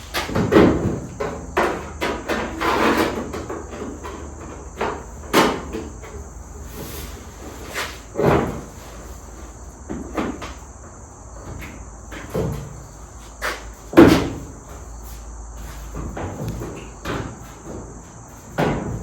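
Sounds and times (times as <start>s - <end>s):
sheet metal clunks and knocks: 0.0s - 6.6s, 8.1s - 14.9s, 15.6s - 19.0s.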